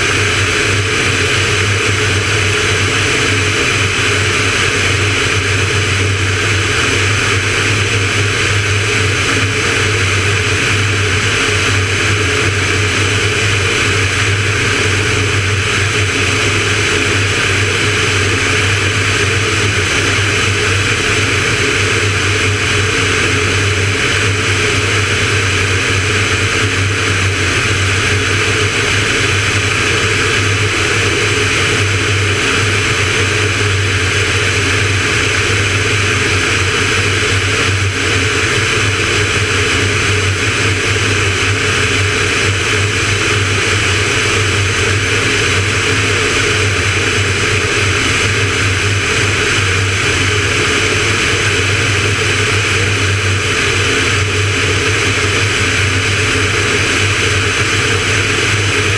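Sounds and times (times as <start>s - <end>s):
light aircraft engine droning: 0.0s - 58.9s.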